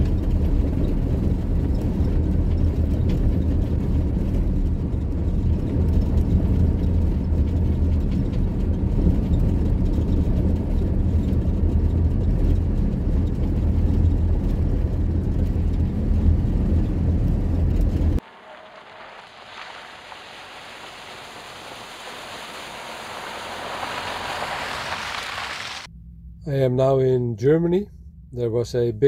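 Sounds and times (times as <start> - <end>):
vehicle driving road noise: 0.0 - 25.9.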